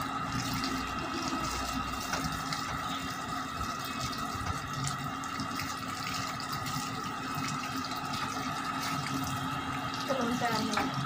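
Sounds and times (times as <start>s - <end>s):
water splashing from hose: 0.0s - 11.0s.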